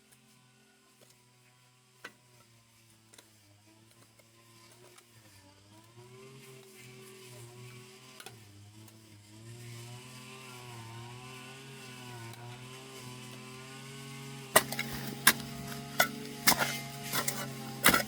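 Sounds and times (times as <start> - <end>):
brush cutter engine running: 0.1 - 18.0.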